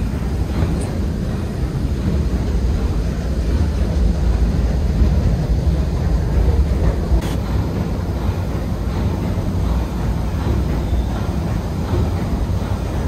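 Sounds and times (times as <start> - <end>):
paddlewheel churning water: 0.0 - 13.0
steam engine running: 0.0 - 13.0.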